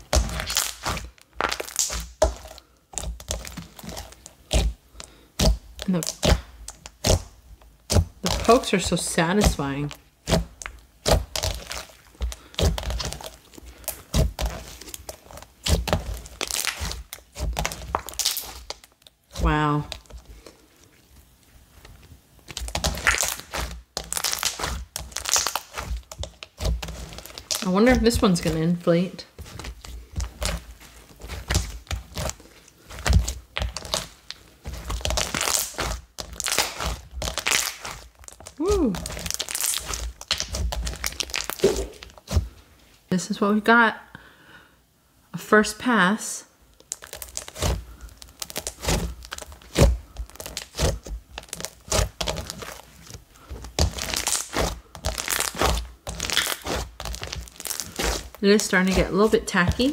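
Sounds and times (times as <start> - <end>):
slime popping: 0.0 - 4.8, 5.4 - 20.3, 22.4 - 28.6, 29.4 - 42.5, 46.8 - 59.9
slime squishing: 0.0 - 42.9, 46.7 - 59.9.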